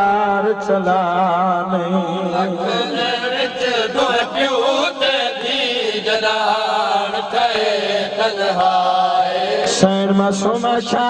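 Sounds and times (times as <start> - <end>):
men chanting over loudspeakers: 0.0 - 11.0.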